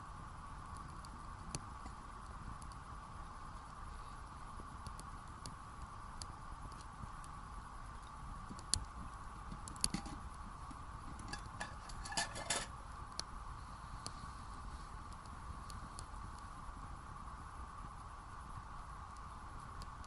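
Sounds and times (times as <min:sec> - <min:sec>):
steady faint tone: 0:00.0 - 0:20.0
wood fire crackling and popping: 0:00.0 - 0:20.0.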